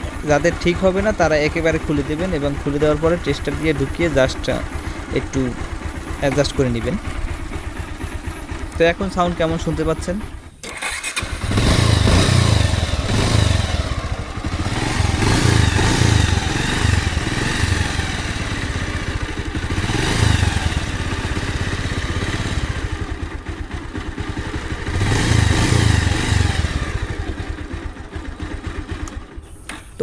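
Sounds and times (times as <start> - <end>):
motorcycle engine revving: 0.0 - 29.8.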